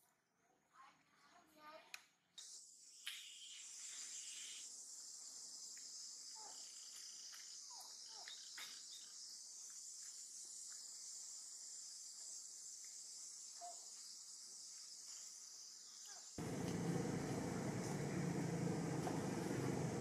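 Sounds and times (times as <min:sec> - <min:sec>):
insects trilling: 0:02.4 - 0:19.8.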